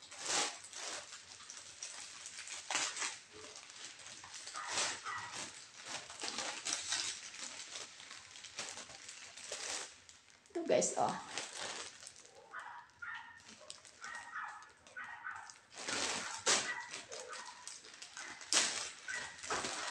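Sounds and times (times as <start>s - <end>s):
plastic pouch rustling and crinkling: 0.0s - 19.9s.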